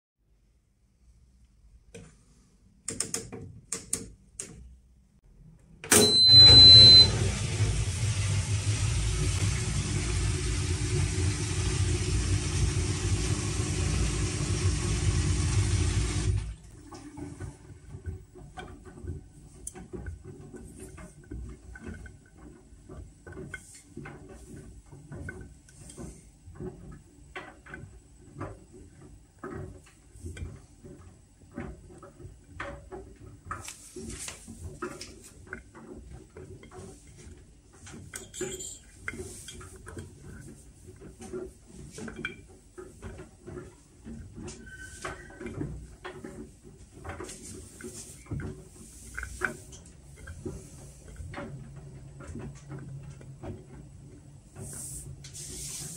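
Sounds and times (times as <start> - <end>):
washing machine water rushing: 6.0 - 55.9.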